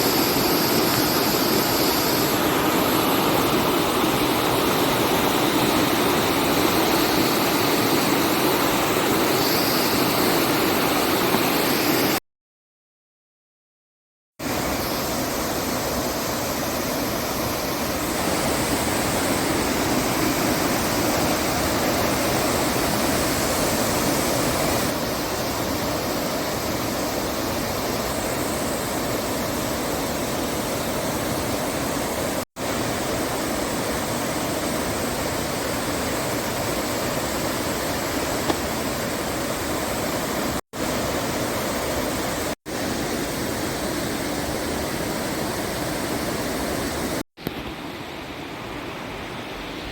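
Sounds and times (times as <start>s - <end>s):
river water rushing over rocks: 0.0s - 12.2s, 14.4s - 49.9s.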